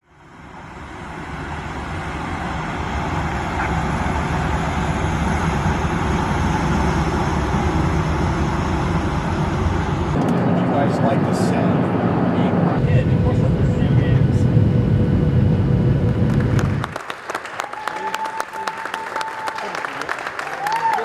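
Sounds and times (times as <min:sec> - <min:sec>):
vehicle rumble: 0:00.0 - 0:17.1.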